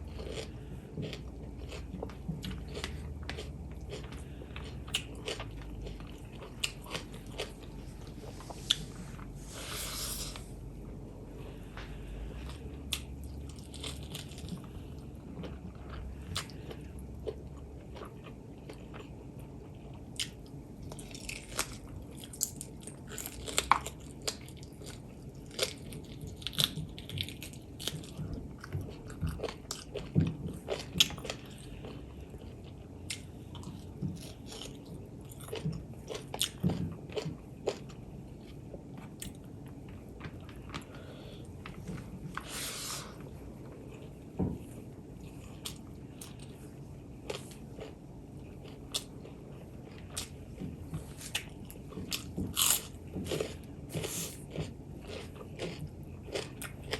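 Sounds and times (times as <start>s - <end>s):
person chewing and biting food: 0.0s - 10.8s, 11.6s - 44.2s, 45.2s - 56.9s.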